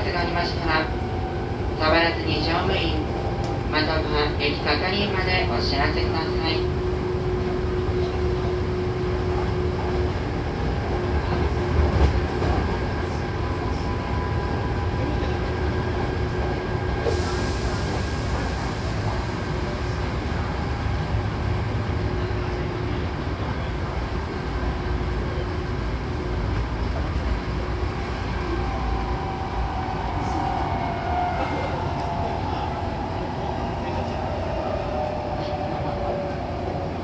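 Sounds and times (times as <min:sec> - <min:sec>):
train interior rumble: 0:00.0 - 0:37.0.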